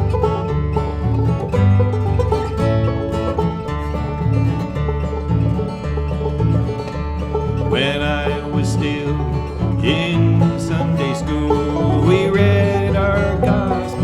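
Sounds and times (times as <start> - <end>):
plucked string instruments: 0.0 - 14.0
steady bass line: 0.0 - 14.0.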